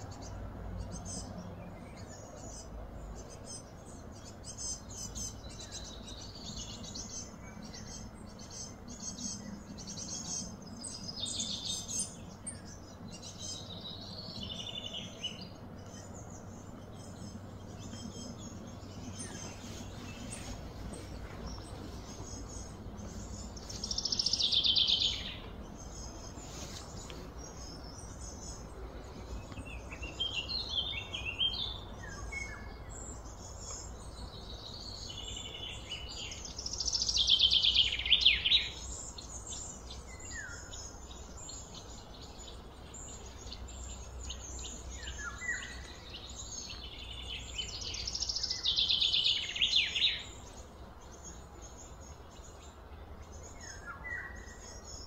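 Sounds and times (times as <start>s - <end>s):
soft bird chirps: 0.0s - 55.0s
songbird trilling: 1.9s - 55.0s.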